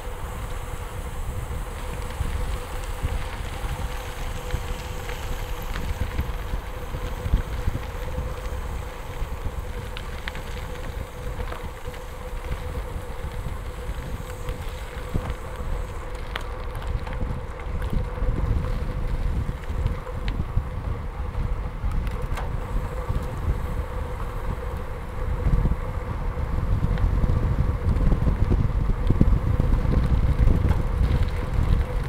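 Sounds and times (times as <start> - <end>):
bicycle tyres rolling on gravel: 0.0 - 32.0
faint steady hum: 0.0 - 32.0
wind noise on microphone: 0.0 - 32.0.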